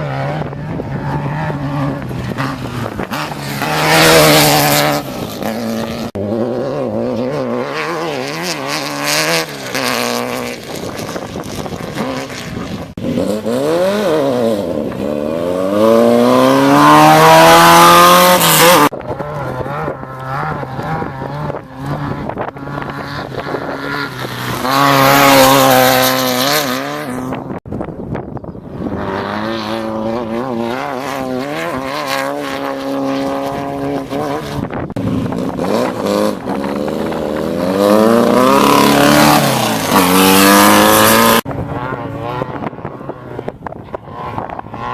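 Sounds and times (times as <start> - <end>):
race car engines revving past: 0.0 - 44.9.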